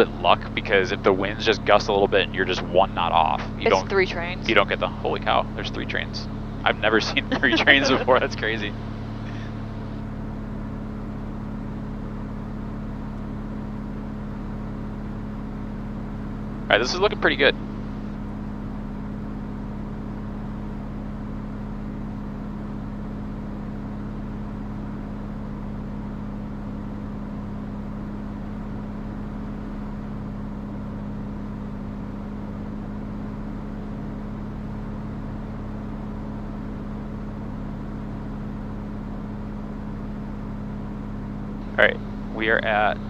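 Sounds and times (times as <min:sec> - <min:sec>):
aircraft engine and propeller drone: 0:00.0 - 0:43.0.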